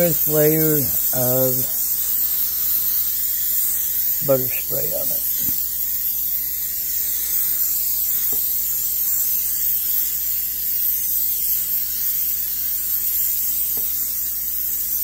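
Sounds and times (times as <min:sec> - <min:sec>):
aerosol spray hissing: 0:00.0 - 0:15.0.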